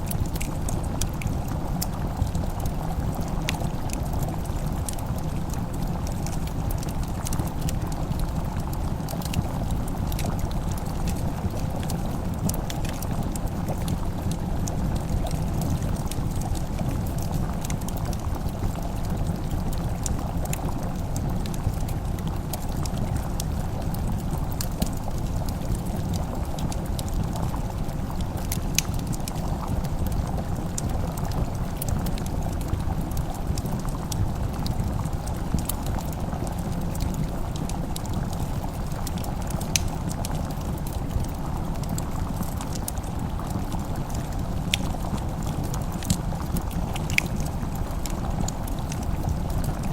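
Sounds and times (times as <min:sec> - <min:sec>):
fire burning with crackles: 0:00.0 - 0:49.9.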